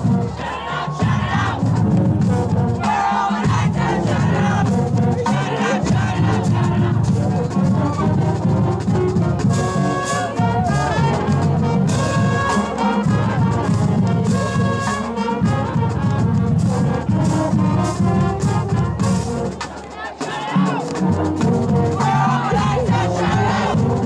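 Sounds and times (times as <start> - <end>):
brass instruments playing: 0.0 - 24.0
drumline beat: 0.0 - 24.0.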